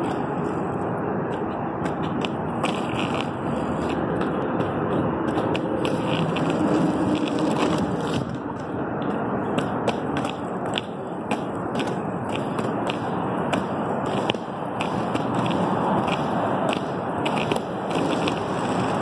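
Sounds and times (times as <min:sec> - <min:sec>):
skate wheels rolling on asphalt: 0:00.0 - 0:19.0.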